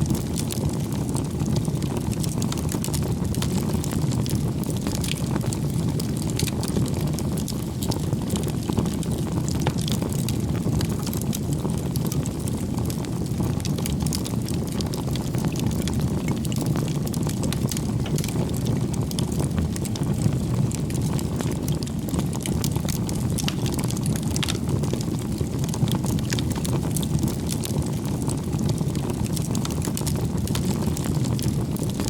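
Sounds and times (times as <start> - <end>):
fire flames rumbling: 0.0 - 32.0
wood crackling and popping: 0.0 - 32.0.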